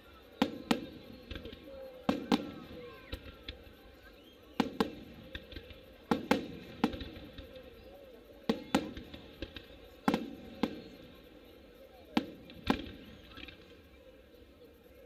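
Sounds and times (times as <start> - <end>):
firework shells bursting: 0.3 - 13.9.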